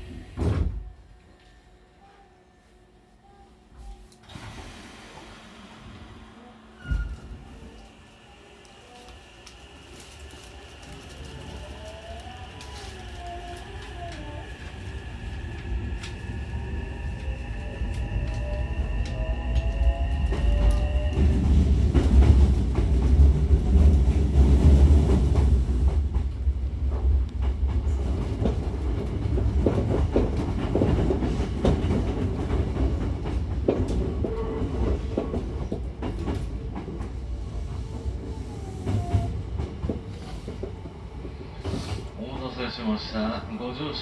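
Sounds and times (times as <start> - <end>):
train rumble inside carriage: 0.0 - 44.0.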